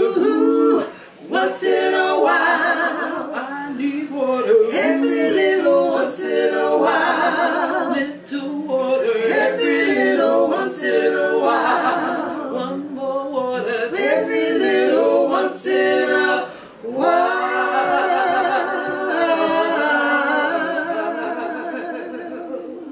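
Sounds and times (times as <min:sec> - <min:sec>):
women singing a cappella: 0:00.0 - 0:22.9.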